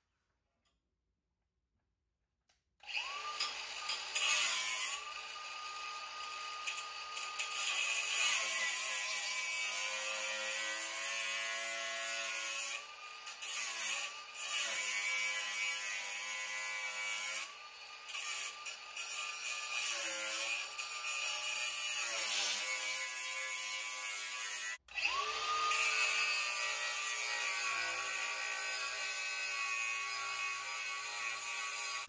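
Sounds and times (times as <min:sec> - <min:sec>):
angle grinder cutting metal: 0:02.8 - 0:32.0.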